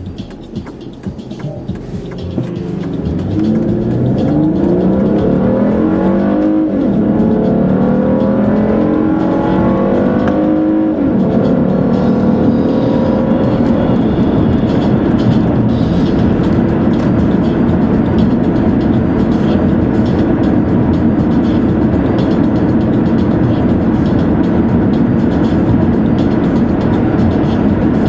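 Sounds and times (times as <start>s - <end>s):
gear upshifts: 0.0s - 23.8s
car engine accelerating hard: 0.0s - 28.0s.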